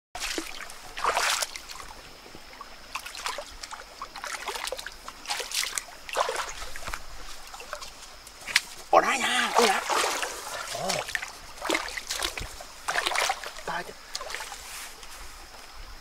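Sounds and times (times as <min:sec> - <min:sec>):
water splashing in stream: 0:00.2 - 0:15.8.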